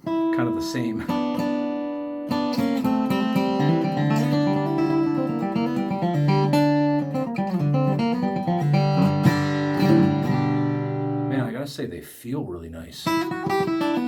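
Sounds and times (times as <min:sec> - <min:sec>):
acoustic guitar picking: 0:00.0 - 0:11.6, 0:13.0 - 0:14.0.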